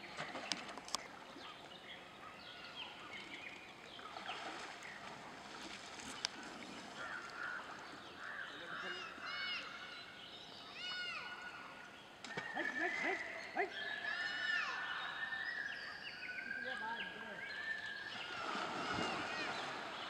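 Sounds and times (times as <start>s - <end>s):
birds chirping: 0.0s - 20.0s
outdoor background noise: 0.0s - 20.0s.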